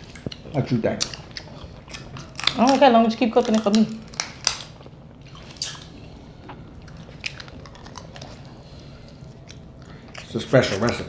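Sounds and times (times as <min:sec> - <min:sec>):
chewing and wet mouth noises: 0:00.0 - 0:11.0.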